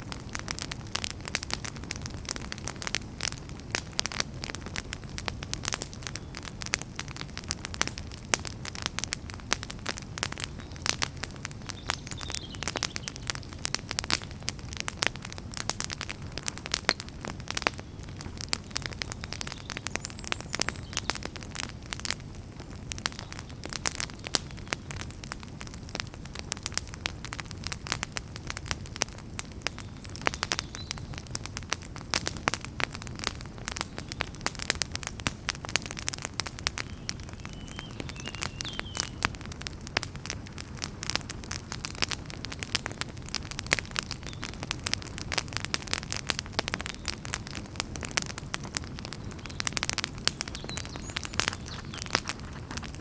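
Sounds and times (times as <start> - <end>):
low rumble of flames: 0.0 - 53.0
wood fire crackling and popping: 0.0 - 53.0.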